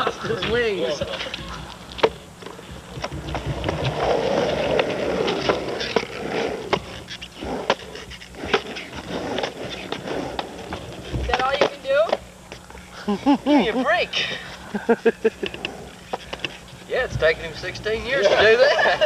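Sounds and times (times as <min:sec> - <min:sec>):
skateboard clacking: 0:00.0 - 0:12.7, 0:15.4 - 0:19.0
skateboard wheels rolling: 0:00.0 - 0:19.0.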